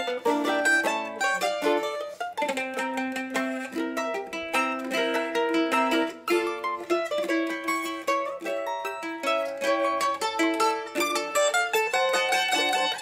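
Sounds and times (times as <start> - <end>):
plucked string duet: 0.0 - 13.0.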